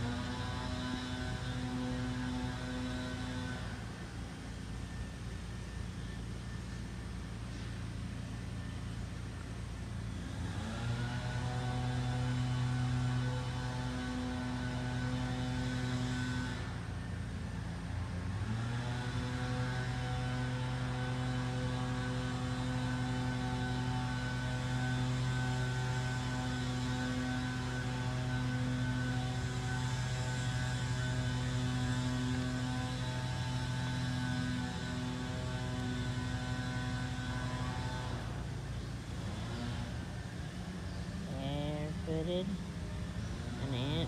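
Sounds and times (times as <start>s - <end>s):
lawnmower engine running: 0.0s - 44.0s.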